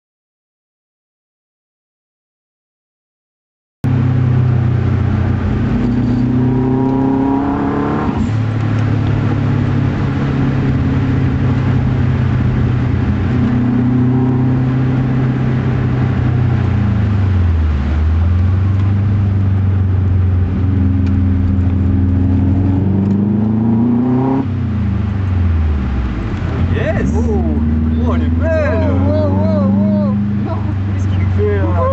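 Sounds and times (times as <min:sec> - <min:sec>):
car engine revving: 0:03.9 - 0:31.9.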